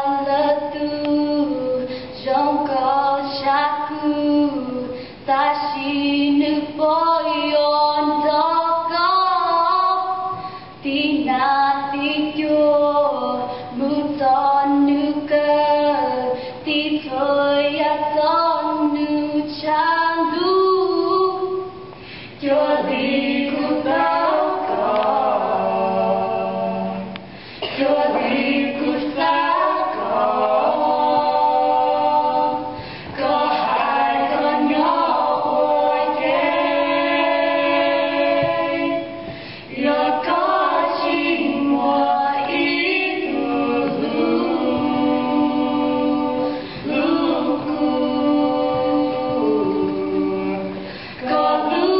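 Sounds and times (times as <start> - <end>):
women singing a cappella: 0.0 - 51.9.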